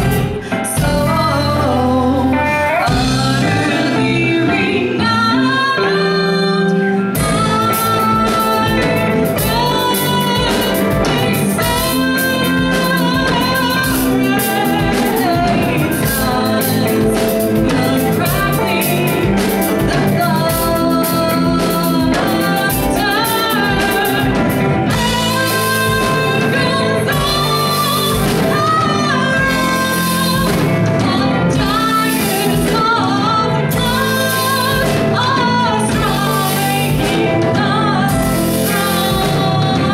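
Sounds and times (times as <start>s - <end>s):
bass guitar: 0.0s - 39.9s
drums: 0.0s - 39.9s
electric guitar: 0.0s - 39.9s
woman singing: 0.0s - 39.9s.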